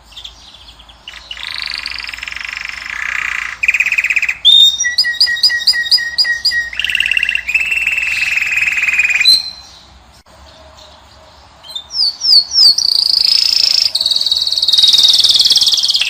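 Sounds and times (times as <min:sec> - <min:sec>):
goldfinch song: 0:00.0 - 0:16.0.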